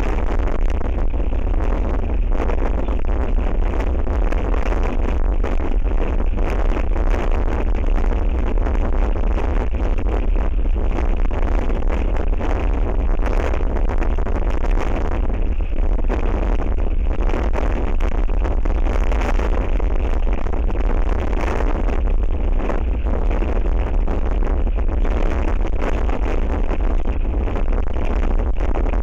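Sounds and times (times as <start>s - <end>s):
strong wind buffeting microphone: 0.0s - 29.0s.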